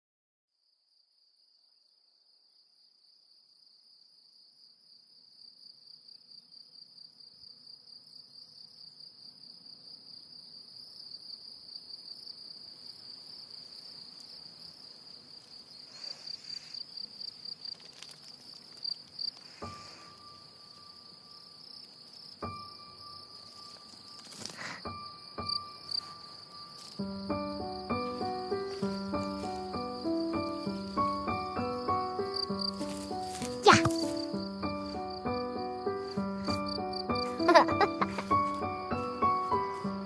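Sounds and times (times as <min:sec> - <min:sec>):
crickets chirping: 0:00.6 - 0:40.0.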